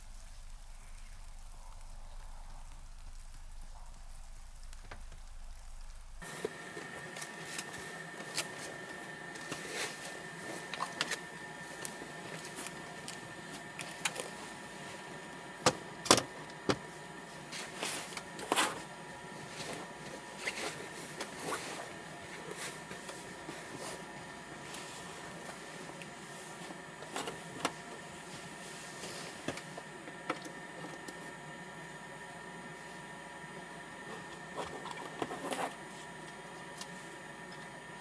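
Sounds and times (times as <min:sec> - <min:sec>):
faint steady whine: 0:00.0 - 0:38.0.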